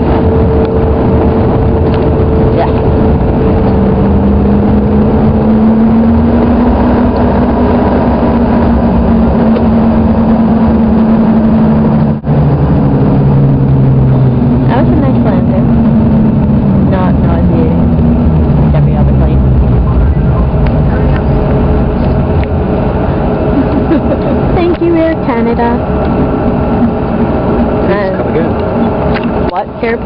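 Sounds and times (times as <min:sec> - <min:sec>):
jet engines droning in cabin: 0:00.0 - 0:30.0.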